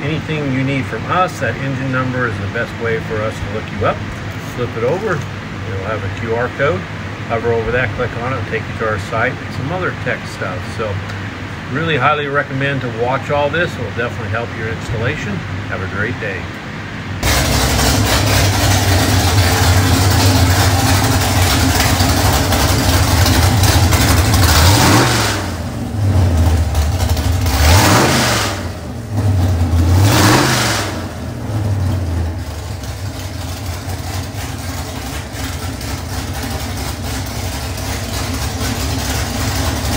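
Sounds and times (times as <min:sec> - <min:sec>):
engine revving and idling: 0:00.0 - 0:12.0, 0:17.0 - 0:39.9.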